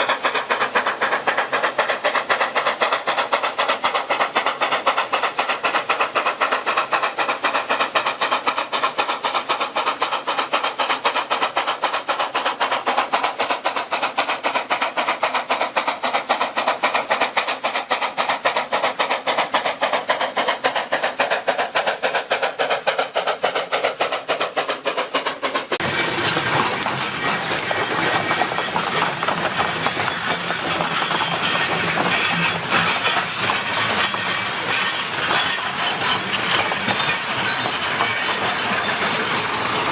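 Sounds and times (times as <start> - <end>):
steam locomotive running: 0.0 - 39.9.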